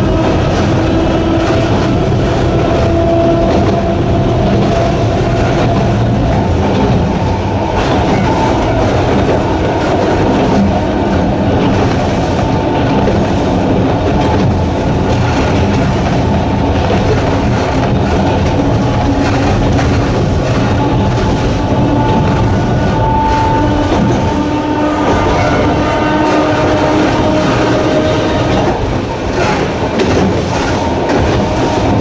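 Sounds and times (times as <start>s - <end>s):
electric train motors growling: 0.0s - 32.0s
train wheels on rails: 0.0s - 32.0s.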